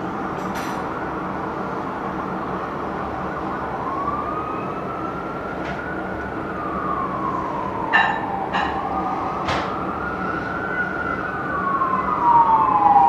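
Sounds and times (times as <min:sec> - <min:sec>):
engine and traffic rumble: 0:00.0 - 0:13.0
fire engine siren wailing: 0:01.1 - 0:13.0.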